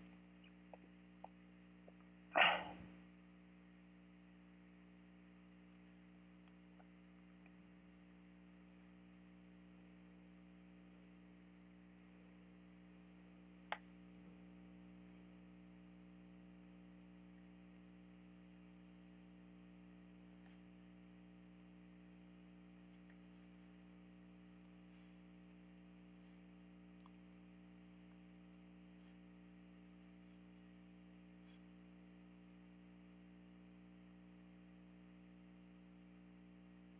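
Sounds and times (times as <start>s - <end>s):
faint electrical hum: 0.0s - 36.9s.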